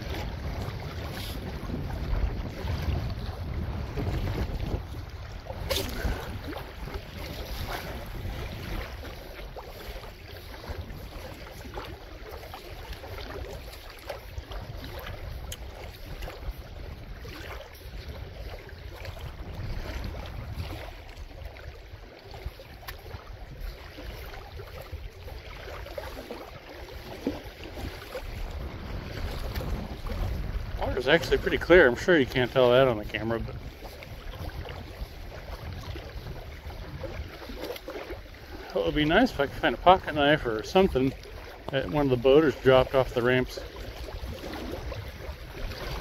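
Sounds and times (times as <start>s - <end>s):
wind rumbling on microphone: 0.0s - 46.0s.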